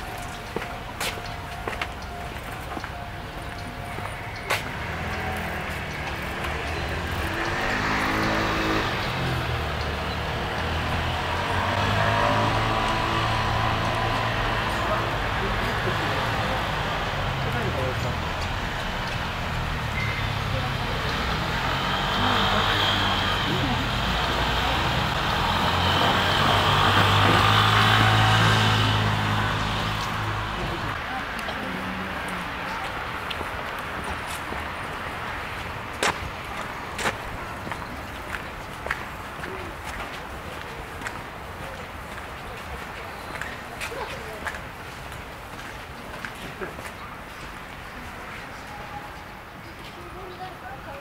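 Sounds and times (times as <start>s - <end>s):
motor vehicle running: 0.0s - 47.0s.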